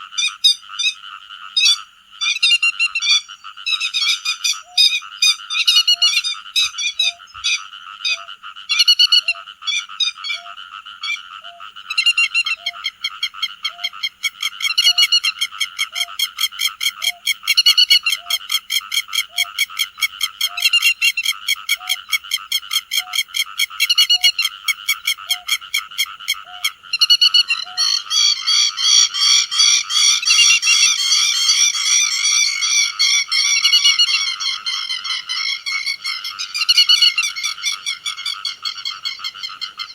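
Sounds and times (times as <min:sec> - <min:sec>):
lapwings calling: 0:01.6 - 0:39.9.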